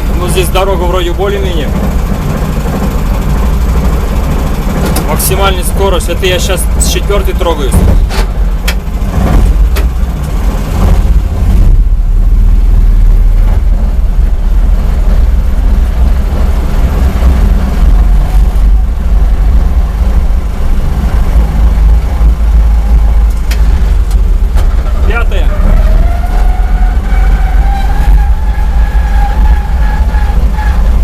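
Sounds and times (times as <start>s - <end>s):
vehicle engine under load: 0.0s - 31.0s.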